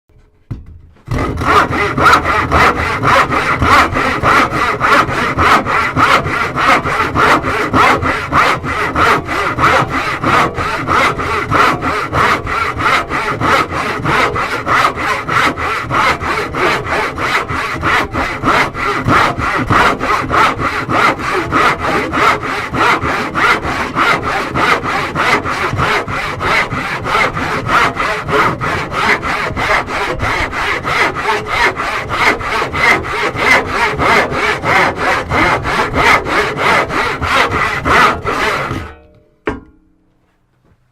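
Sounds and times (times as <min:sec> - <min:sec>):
handsaw cutting wood: 0:01.1 - 0:38.9.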